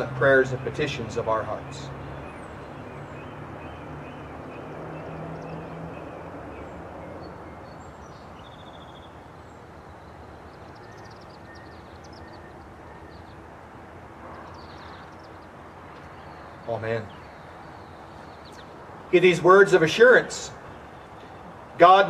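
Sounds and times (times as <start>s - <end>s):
birds chirping faintly: 0.0s - 22.0s
steady outdoor wash: 0.0s - 22.0s.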